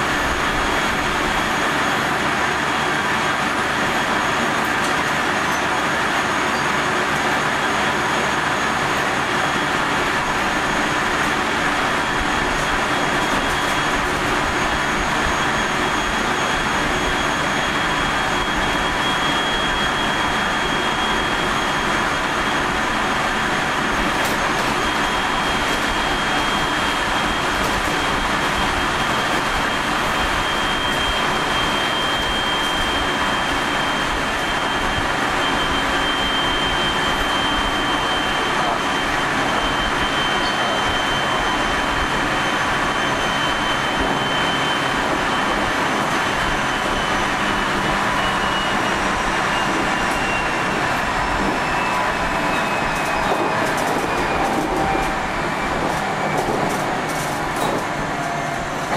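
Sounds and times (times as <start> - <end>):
high motor whine: 0.0 - 58.9
wheels rumbling on rail: 0.0 - 58.9.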